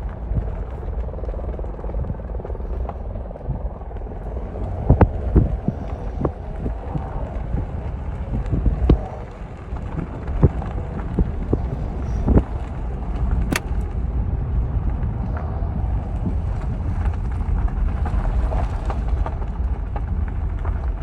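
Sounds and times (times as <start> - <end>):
helicopter rotor drone: 0.0 - 21.0.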